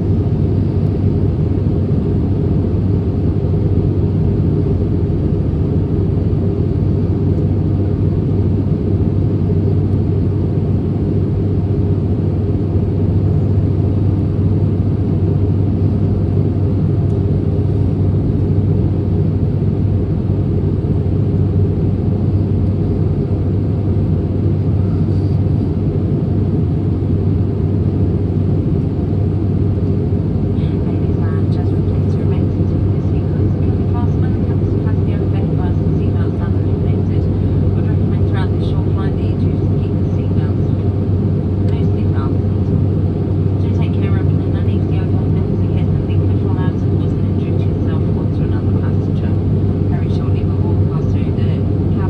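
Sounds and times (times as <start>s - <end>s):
airliner engine drone: 0.0s - 52.0s.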